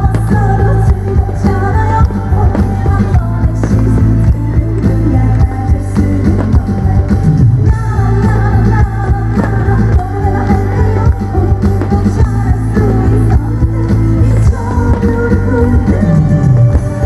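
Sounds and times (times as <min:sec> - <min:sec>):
amplified backing music with drums: 0:00.0 - 0:17.0
person singing into a microphone: 0:00.0 - 0:17.0.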